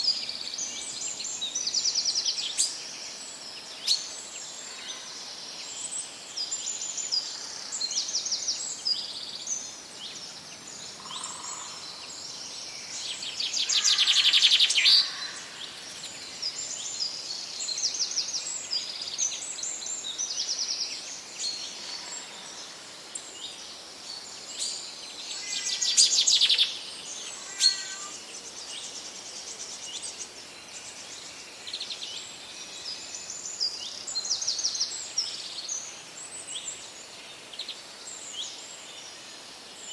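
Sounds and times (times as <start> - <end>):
forest birds chorus: 0.0 - 39.9.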